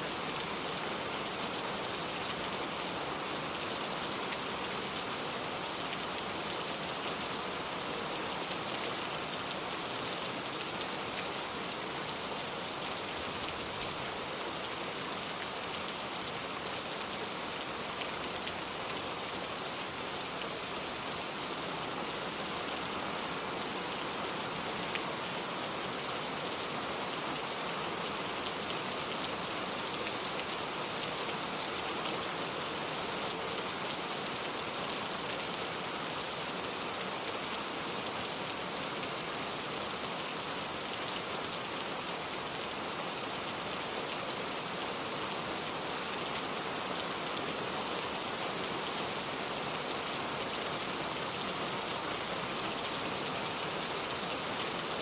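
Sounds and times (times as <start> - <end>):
heavy pouring rain: 0.0 - 55.0.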